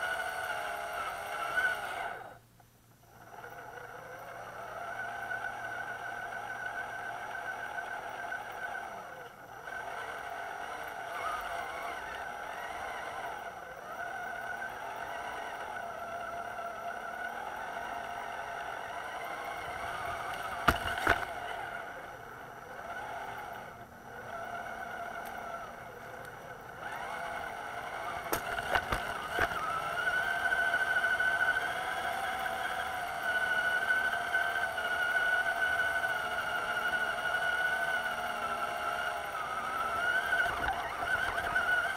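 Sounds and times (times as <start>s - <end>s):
electric motor whining: 0.0s - 2.4s, 3.1s - 41.9s.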